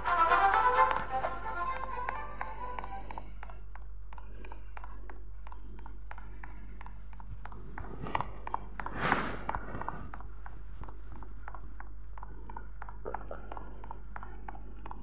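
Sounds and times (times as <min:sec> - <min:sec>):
steady low hum: 0:00.0 - 0:15.0
light clicks and taps: 0:00.9 - 0:15.0.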